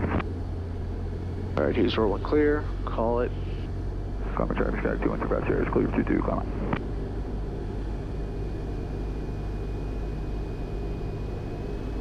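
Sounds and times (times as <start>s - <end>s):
aircraft engine and propeller running: 0.0s - 12.0s.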